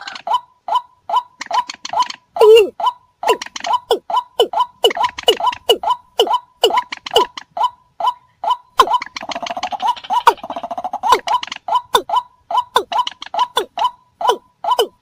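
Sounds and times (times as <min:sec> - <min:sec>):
rails calling: 0:00.0 - 0:15.0.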